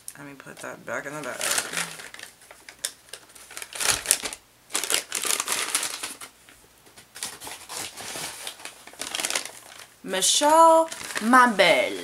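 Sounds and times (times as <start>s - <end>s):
bag crinkling and rustling: 1.1s - 12.0s.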